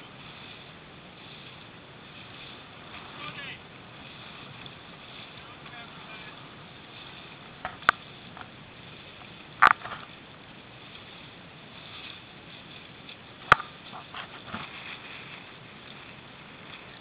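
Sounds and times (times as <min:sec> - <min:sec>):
choppy shallow water: 0:00.0 - 0:17.0
wind: 0:00.0 - 0:17.0.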